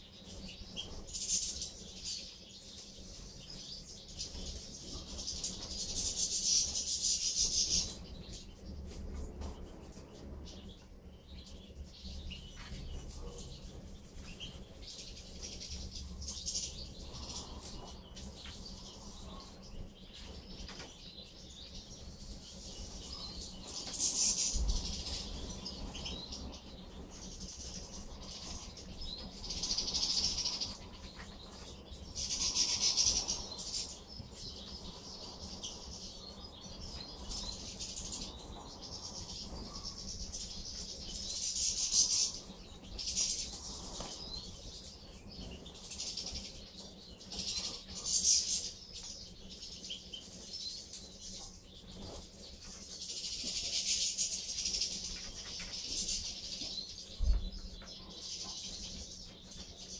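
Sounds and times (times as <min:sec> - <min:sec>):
finches twittering: 0:11.5 - 0:59.9.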